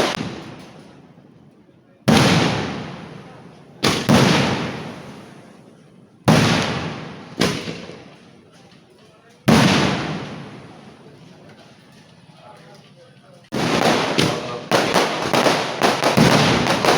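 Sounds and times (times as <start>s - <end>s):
fireworks bangs with echo: 0.0s - 8.5s, 9.4s - 11.2s, 13.5s - 16.9s.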